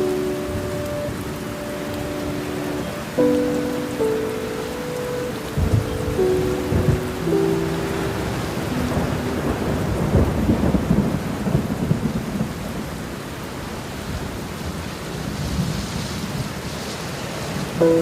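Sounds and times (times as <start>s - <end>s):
thunder rumbling: 0.0s - 16.7s
heavy rain: 0.0s - 18.0s.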